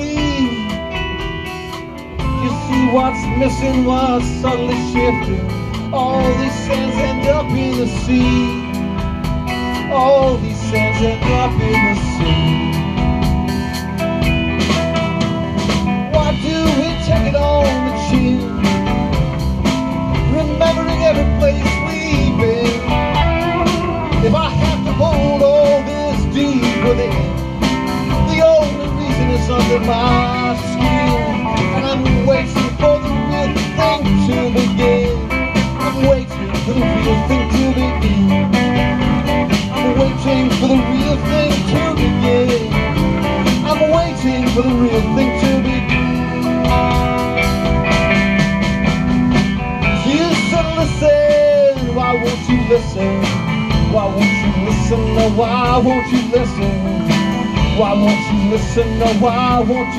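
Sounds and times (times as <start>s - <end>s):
electric guitars: 0.0s - 59.9s
steady drum beat: 0.0s - 59.9s.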